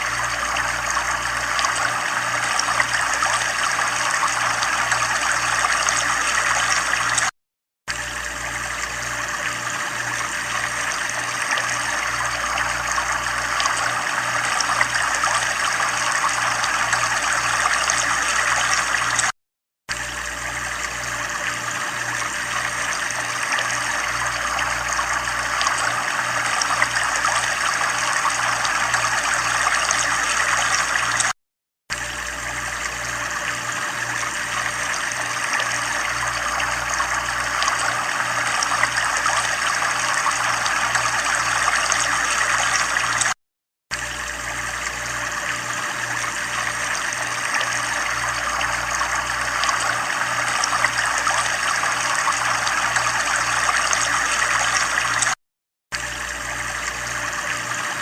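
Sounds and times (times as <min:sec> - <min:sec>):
running water trickling: 0:00.0 - 0:07.3, 0:07.9 - 0:19.3, 0:19.9 - 0:55.4.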